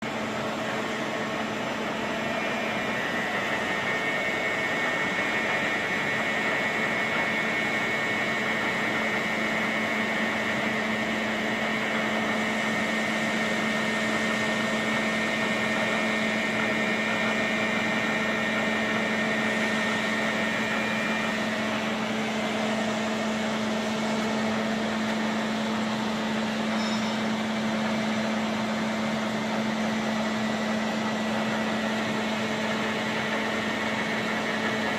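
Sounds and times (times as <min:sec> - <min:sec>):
milling machine humming: 0:00.0 - 0:34.9.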